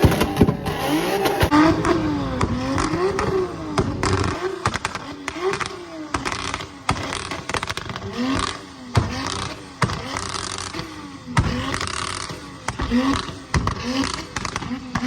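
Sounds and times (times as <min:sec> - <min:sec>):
car engines revving: 0:00.0 - 0:15.0
exhaust pops and bangs: 0:00.0 - 0:15.0.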